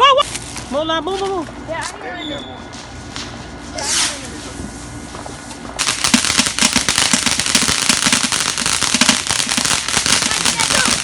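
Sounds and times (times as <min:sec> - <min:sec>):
firecrackers popping: 0:00.2 - 0:01.3, 0:03.2 - 0:11.0.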